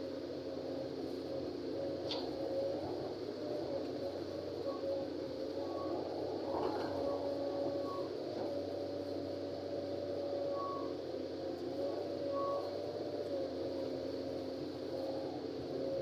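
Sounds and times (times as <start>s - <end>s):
excavator engine and hydraulics whine: 0.0s - 16.0s.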